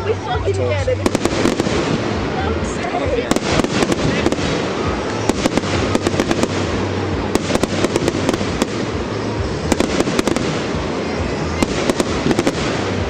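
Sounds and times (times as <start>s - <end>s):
fireworks crackling pops: 0.8s - 13.0s.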